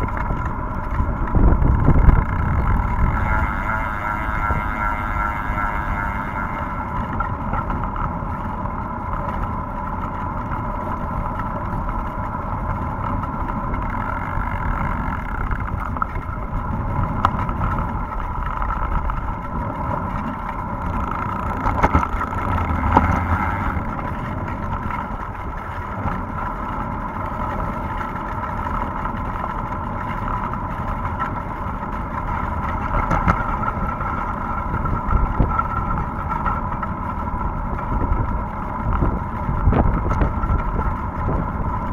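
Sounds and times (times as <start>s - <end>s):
wind buffeting microphone: 0.0s - 28.4s, 30.0s - 41.9s
bicycle tyre on wet road: 0.0s - 41.9s
steady hum: 0.0s - 41.9s.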